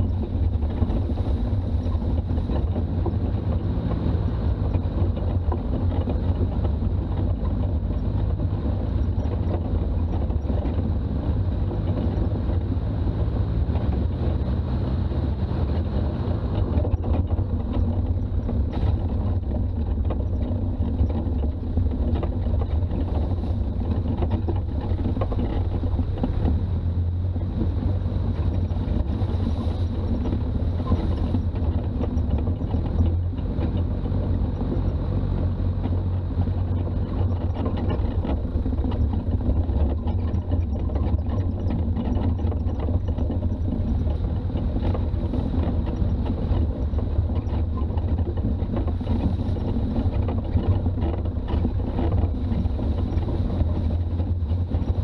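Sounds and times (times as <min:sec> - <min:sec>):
diesel engine running: 0:00.0 - 0:55.0
road noise: 0:00.0 - 0:55.0.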